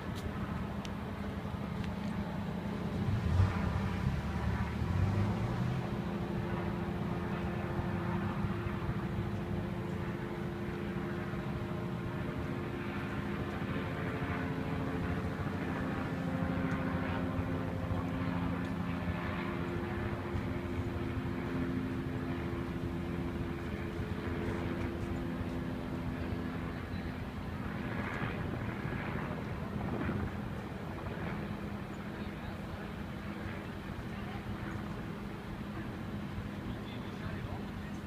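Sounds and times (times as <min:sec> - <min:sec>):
engines droning: 0:00.0 - 0:38.0
steady hums: 0:00.0 - 0:38.0.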